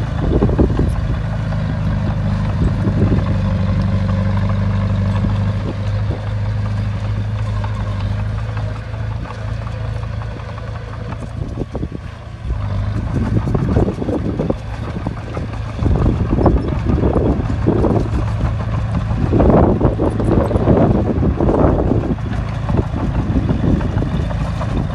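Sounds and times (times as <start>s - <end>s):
bulldozer diesel engine: 0.0s - 24.9s.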